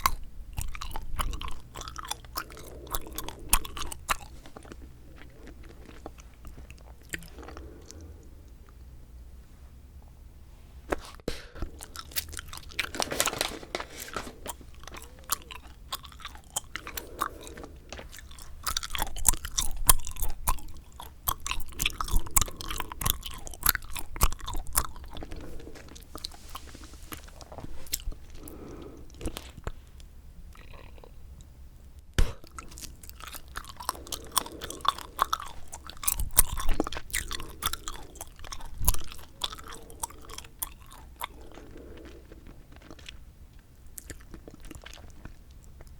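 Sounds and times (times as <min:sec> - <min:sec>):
gum chewing smacks: 0:00.0 - 0:09.0, 0:11.3 - 0:29.8, 0:32.1 - 0:45.9.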